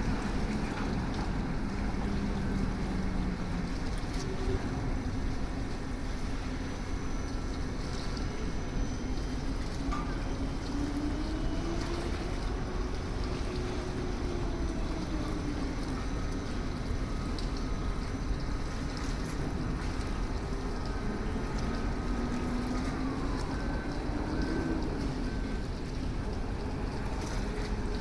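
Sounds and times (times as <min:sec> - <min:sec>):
faint machine hum: 0:00.0 - 0:28.0.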